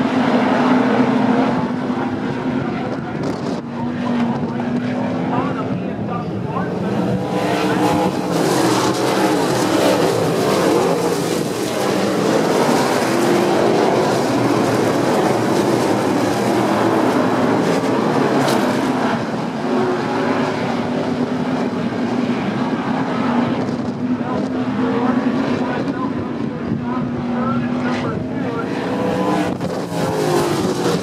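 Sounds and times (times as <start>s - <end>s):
race car engines passing: 0.0s - 31.0s.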